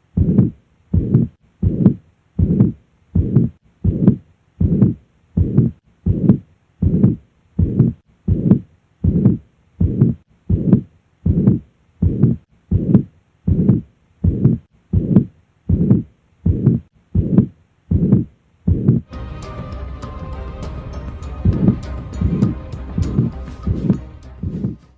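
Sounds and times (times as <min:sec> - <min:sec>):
heartbeat with murmur: 0:00.0 - 0:19.1, 0:21.4 - 0:24.9.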